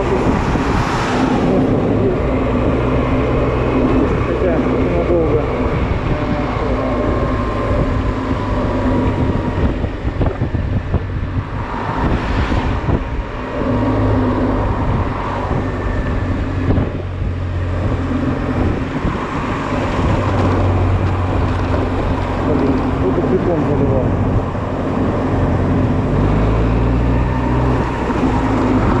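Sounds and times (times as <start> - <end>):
wind noise on microphone: 0.0 - 29.0.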